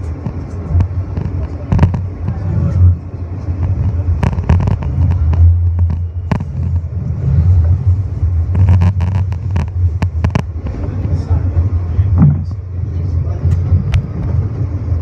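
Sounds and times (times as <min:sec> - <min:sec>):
subway train rumble and hum: 0:00.0 - 0:15.0.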